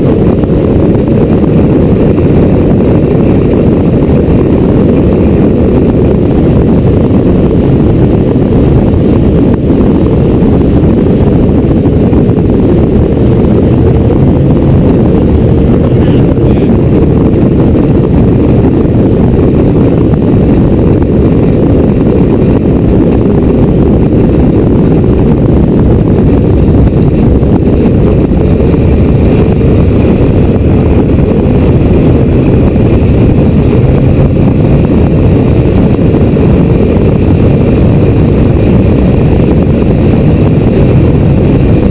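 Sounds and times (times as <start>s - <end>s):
powerboat engine running: 0.0s - 41.9s
wind rush: 0.0s - 41.9s.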